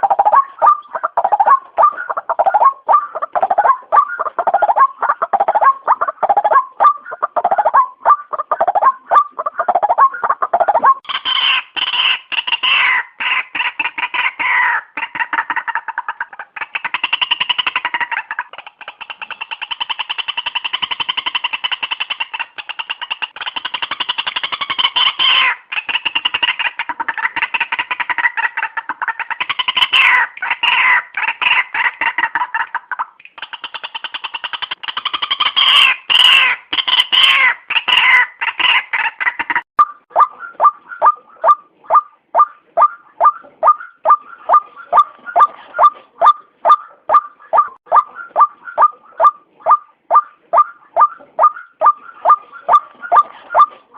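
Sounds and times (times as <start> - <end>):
waterhen calling: 0.0 - 53.9.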